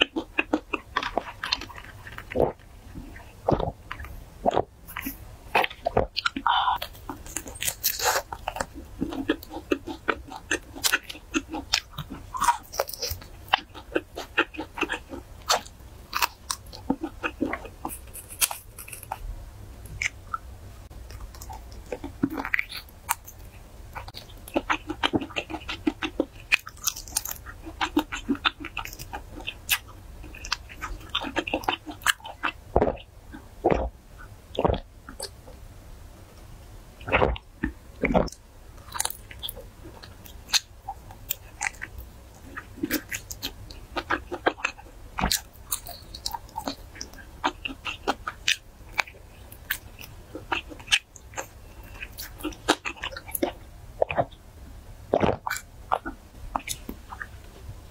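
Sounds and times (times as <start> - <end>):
chewing crunchy food: 0.0 - 35.6, 36.4 - 57.9.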